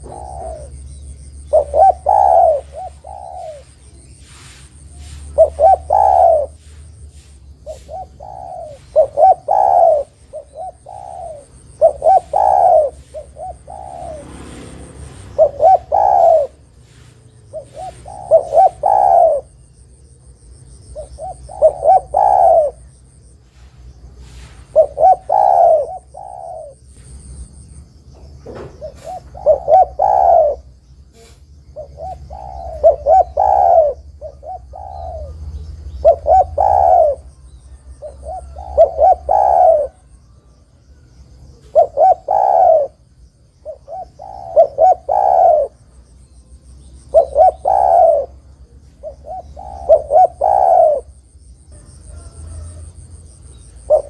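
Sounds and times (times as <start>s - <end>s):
dove cooing: 0.0s - 27.6s, 28.2s - 54.0s.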